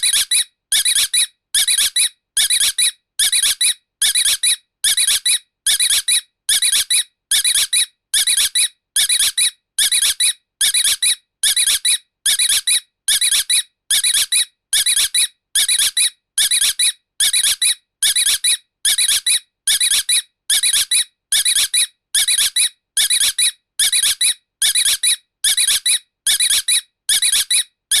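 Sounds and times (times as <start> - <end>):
shrill high-pitched squeak: 0.0 - 28.0.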